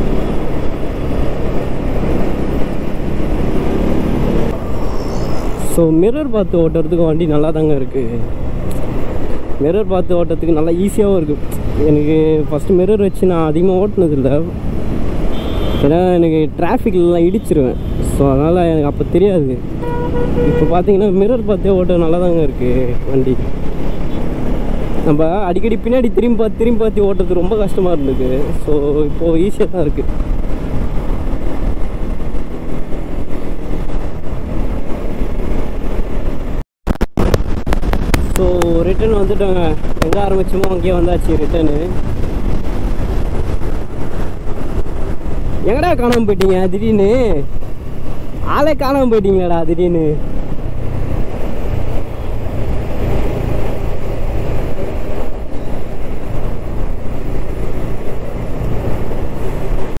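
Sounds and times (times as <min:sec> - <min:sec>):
wind rushing on microphone: 0:00.0 - 0:17.0, 0:17.7 - 1:00.0.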